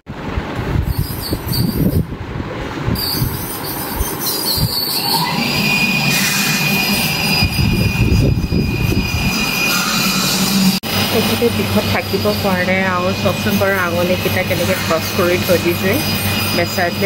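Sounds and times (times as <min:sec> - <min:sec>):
dental scaler whine: 0:03.0 - 0:17.0.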